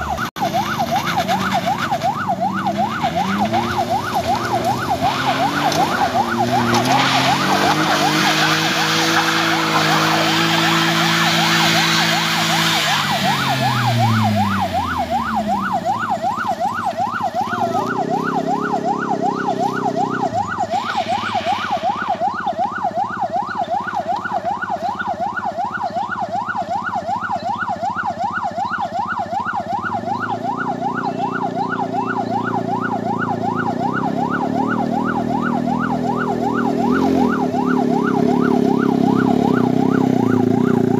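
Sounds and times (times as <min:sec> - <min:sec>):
car engines labouring: 0:00.0 - 0:40.9
siren yelping: 0:00.0 - 0:40.9.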